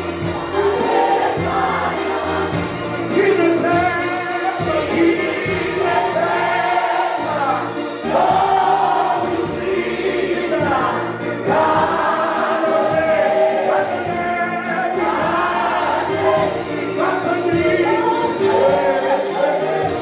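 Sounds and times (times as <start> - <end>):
gospel choir singing: 0.0 - 20.0.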